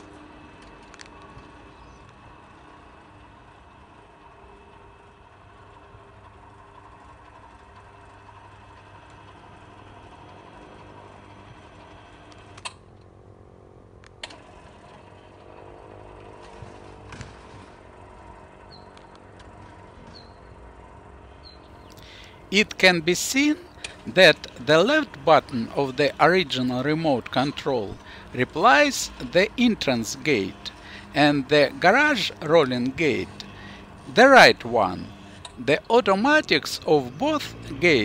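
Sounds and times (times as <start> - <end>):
gate motor hum: 0.0 - 38.0.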